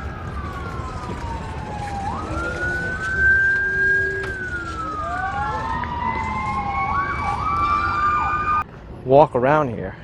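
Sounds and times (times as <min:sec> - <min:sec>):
emergency sirens wailing: 0:00.0 - 0:08.7.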